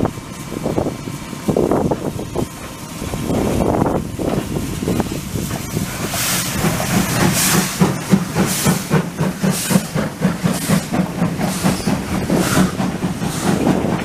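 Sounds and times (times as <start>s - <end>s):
coaches rattling over rails: 0.0s - 14.0s
steam locomotive chuffing: 0.0s - 14.0s.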